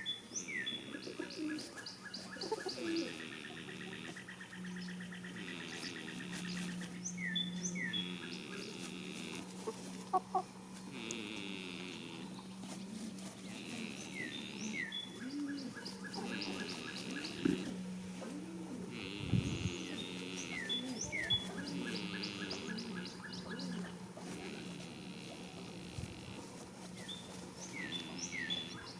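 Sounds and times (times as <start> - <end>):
songbird singing: 0.0 - 28.9
steady low hum: 0.0 - 28.9
goat snoring: 0.6 - 6.9, 7.8 - 28.9.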